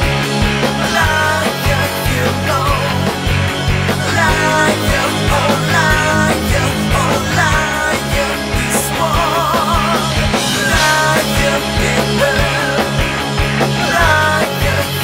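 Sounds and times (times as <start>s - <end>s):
rock band playing live: 0.0s - 15.0s
sliding lead melody line: 0.0s - 15.0s.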